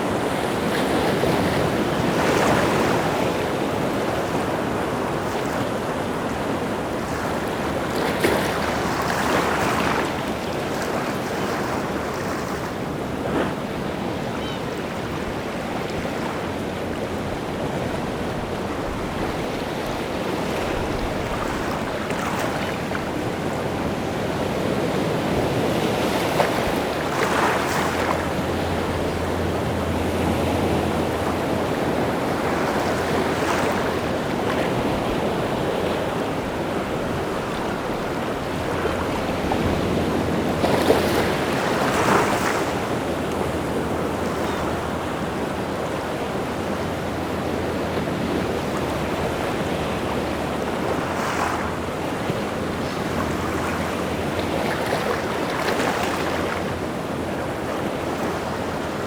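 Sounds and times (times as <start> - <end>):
waves breaking on shore: 0.0 - 59.0
wind: 0.0 - 59.0.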